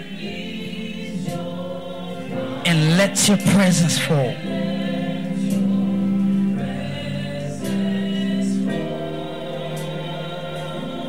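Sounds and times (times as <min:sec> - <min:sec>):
church choir singing: 0:00.0 - 0:11.0.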